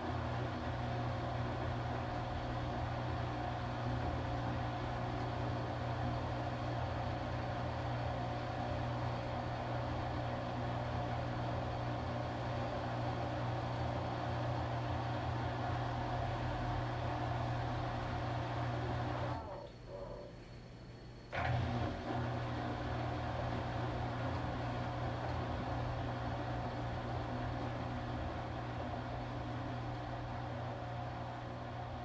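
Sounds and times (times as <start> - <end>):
washing machine running: 0.0 - 20.2, 21.3 - 32.0.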